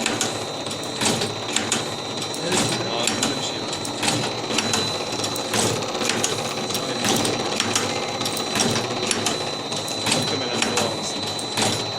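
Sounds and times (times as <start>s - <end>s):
machine mechanical clatter: 0.0s - 11.9s
sharp machine clicks: 0.0s - 11.9s.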